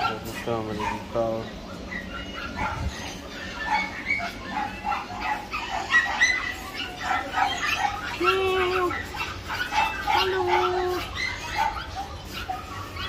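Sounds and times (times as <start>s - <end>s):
young animals yipping and whimpering: 0.0s - 13.0s.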